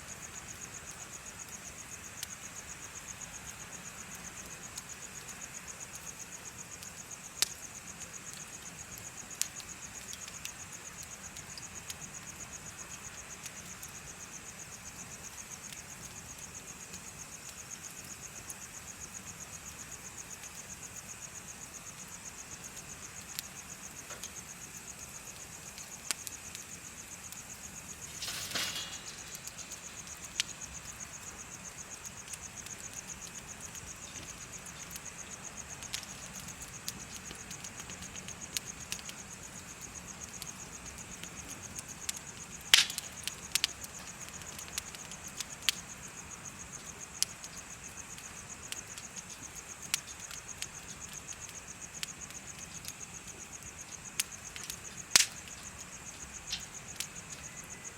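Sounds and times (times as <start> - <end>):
bonfire crackling and popping: 0.0 - 57.9
insects trilling: 0.0 - 57.9.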